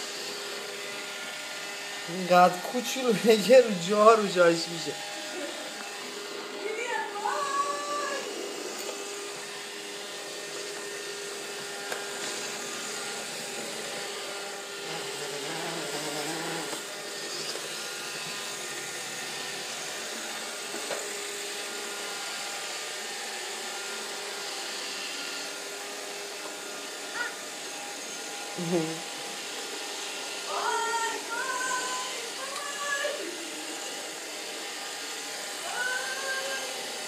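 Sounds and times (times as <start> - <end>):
robot vacuum cleaner whirring: 0.0 - 37.0.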